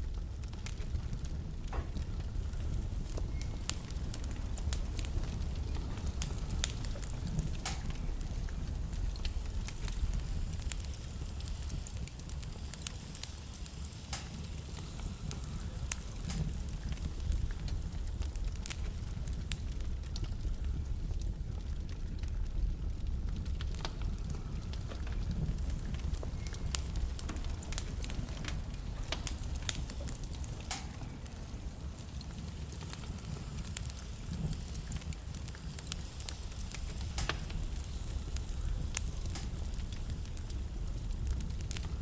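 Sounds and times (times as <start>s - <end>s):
fire flames rumbling: 0.0s - 42.0s
logs crackling and popping: 0.0s - 42.0s.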